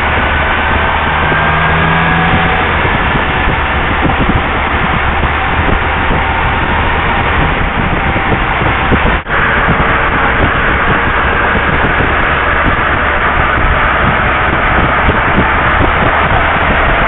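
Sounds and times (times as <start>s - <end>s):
motorcycle engine: 0.0s - 17.0s
road noise: 0.0s - 17.0s
wind rushing over microphone: 0.0s - 17.0s.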